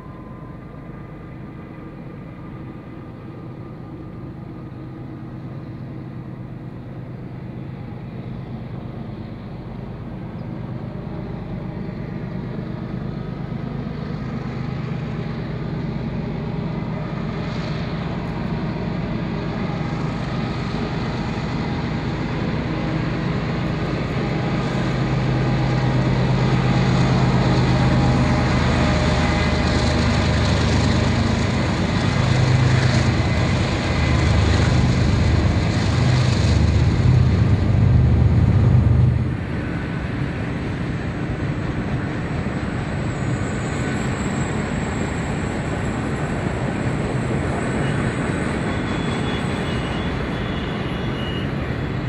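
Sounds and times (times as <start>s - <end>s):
diesel locomotive engine drone: 0.0s - 52.0s
rumble of rolling train cars: 0.0s - 52.0s.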